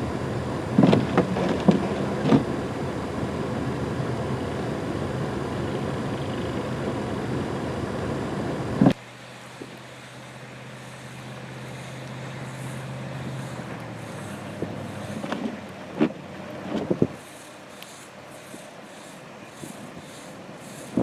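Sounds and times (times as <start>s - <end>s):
low engine hum: 0.0s - 21.0s
traffic and plowing: 0.0s - 21.0s
vehicle engine running: 0.0s - 21.0s.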